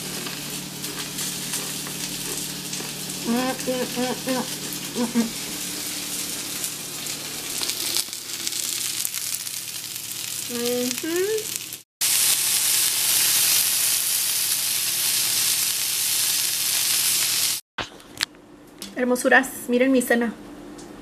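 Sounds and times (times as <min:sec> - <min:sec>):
steak sizzling in frying pan: 0:00.0 - 0:17.6.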